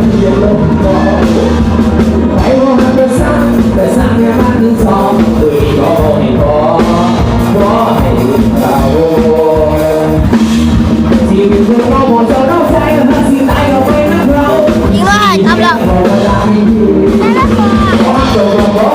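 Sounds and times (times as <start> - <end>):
person singing: 0.0 - 10.4, 11.0 - 18.9
amplified band with drum kit: 0.0 - 18.9.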